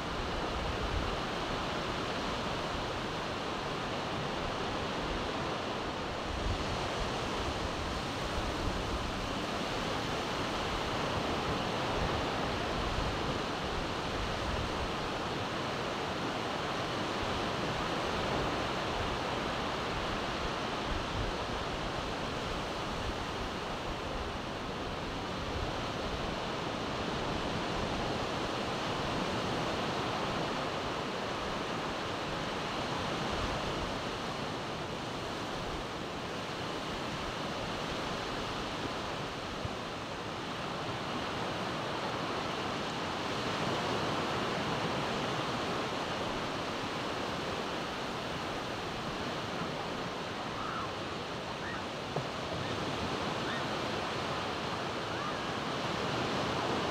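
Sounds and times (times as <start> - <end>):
waves breaking on beach: 0.0 - 56.9.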